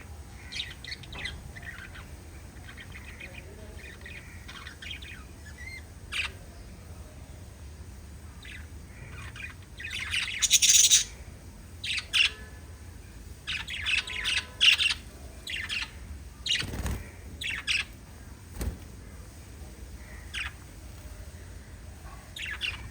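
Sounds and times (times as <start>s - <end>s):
lovebirds chirping and squawking: 0.0s - 6.7s, 8.2s - 12.6s, 13.3s - 19.3s, 19.9s - 22.9s.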